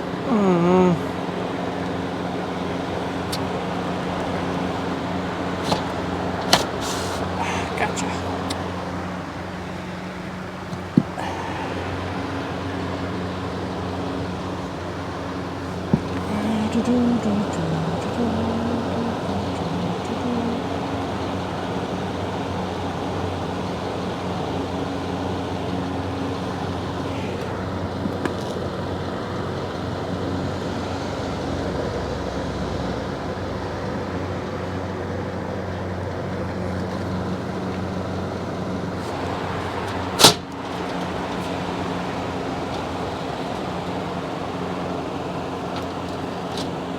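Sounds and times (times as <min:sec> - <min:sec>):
electric fan running: 0:00.0 - 0:46.9.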